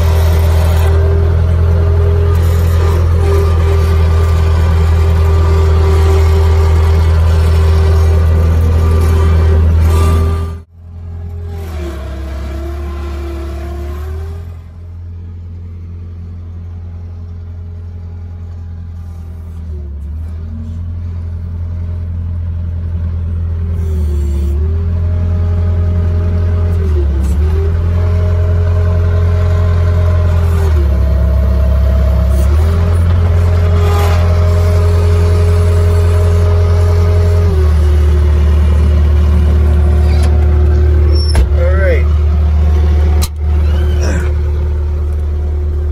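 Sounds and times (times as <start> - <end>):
loader engine hum: 0.0 - 45.9.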